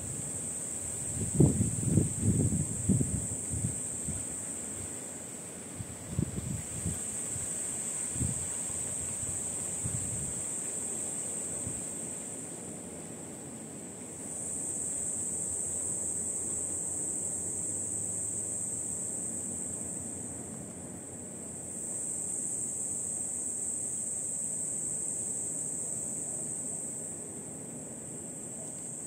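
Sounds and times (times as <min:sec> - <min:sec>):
insects calling: 0:00.0 - 0:29.0.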